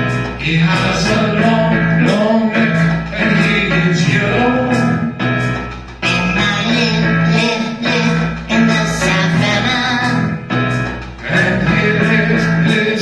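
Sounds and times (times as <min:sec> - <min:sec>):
person singing: 0:00.0 - 0:05.3, 0:06.0 - 0:10.4, 0:11.2 - 0:13.0
instrumental accompaniment with bass: 0:00.0 - 0:13.0.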